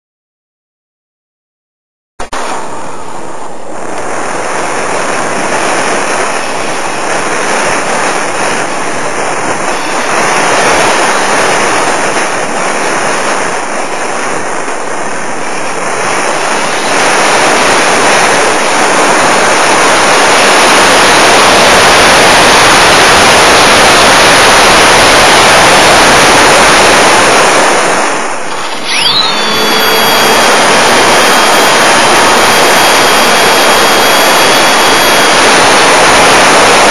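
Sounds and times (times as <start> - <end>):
airflow and motor noise: 2.2 - 36.9
high steady whine: 2.2 - 36.9.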